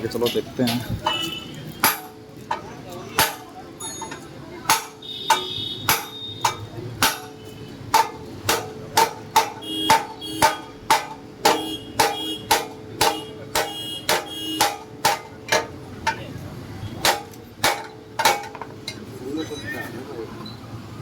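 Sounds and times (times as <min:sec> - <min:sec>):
hammering on metal: 0:00.6 - 0:19.0.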